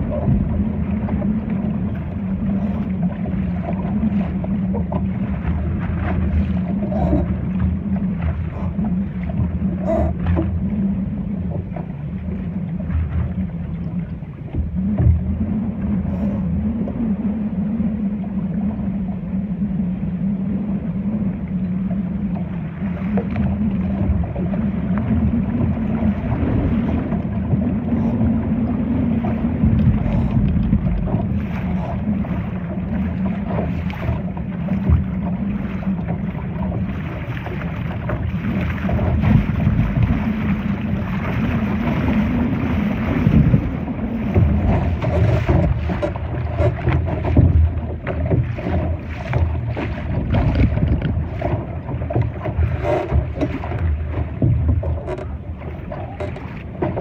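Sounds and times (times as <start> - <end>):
steady low hum: 0.0 - 57.0
water splashing against hull: 0.0 - 57.0
wind buffeting microphone: 0.0 - 57.0.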